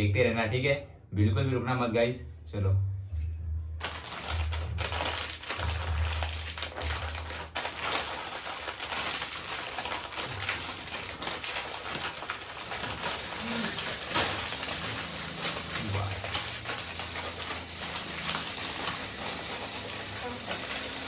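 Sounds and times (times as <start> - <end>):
dry snacks rustling and crackling: 3.8 - 21.0.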